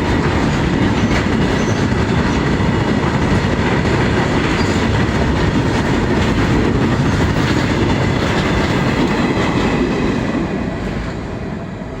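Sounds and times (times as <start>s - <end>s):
train wagons rumbling past: 0.0s - 12.0s.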